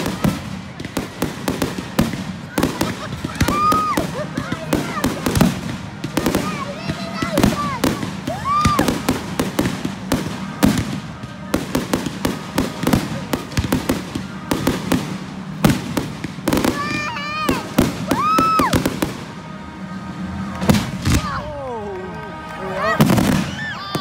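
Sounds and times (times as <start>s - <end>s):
fireworks bangs and crackles: 0.0s - 24.0s
whistling fireworks: 0.0s - 24.0s.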